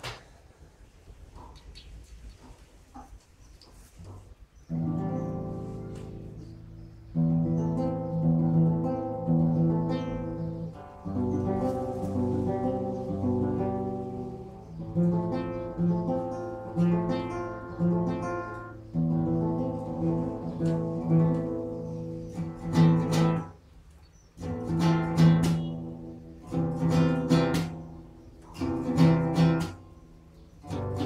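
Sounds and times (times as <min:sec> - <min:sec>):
acoustic guitar playing: 0:04.7 - 0:23.6, 0:24.3 - 0:31.0.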